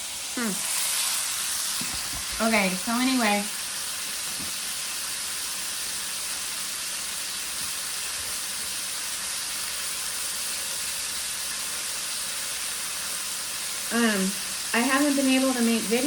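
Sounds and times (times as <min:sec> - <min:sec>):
steaks sizzling in a frying pan: 0:00.0 - 0:16.0.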